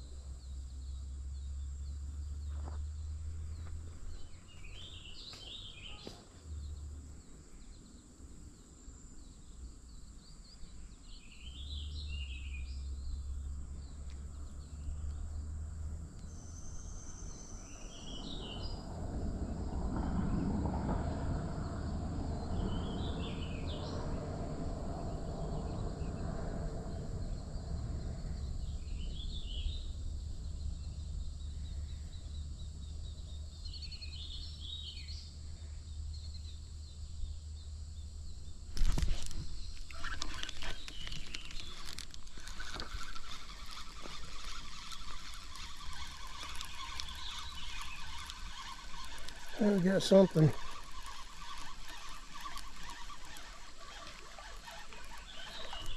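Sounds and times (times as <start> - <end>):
bird chirping: 0.0 - 18.9, 26.9 - 55.9.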